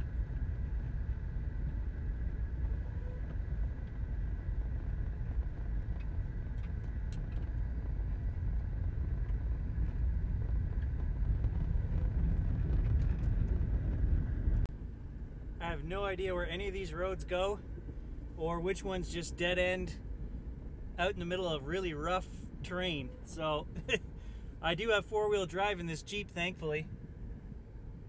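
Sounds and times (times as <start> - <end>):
engine and tyres rumbling: 0.0 - 28.0.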